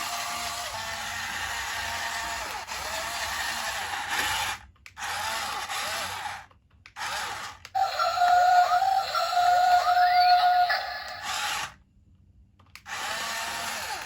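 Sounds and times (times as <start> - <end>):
toy electric motor whirring: 0.0 - 11.8, 12.7 - 14.0.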